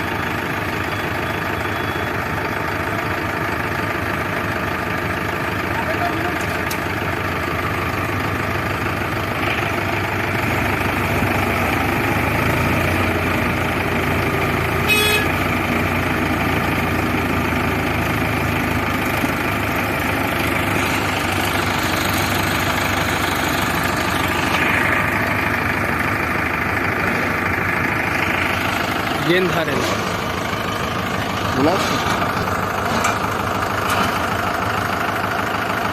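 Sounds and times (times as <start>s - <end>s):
heavy diesel engine straining: 0.0s - 35.9s.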